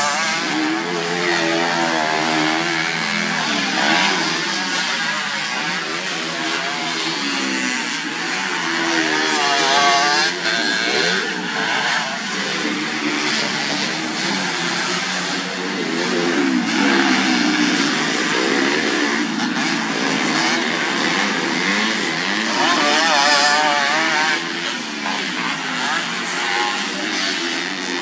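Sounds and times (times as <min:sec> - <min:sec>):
motorcycles revving and accelerating: 0:00.0 - 0:28.0.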